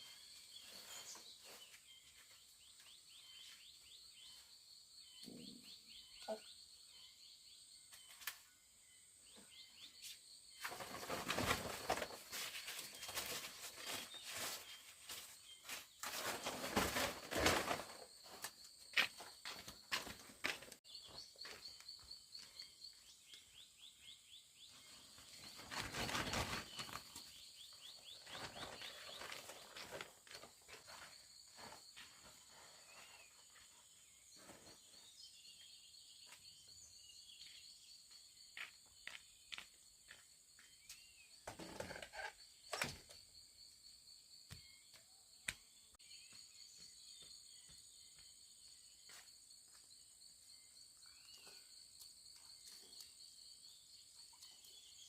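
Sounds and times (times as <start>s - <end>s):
bird chirps: 0.0s - 16.3s, 18.2s - 43.3s, 50.5s - 55.0s.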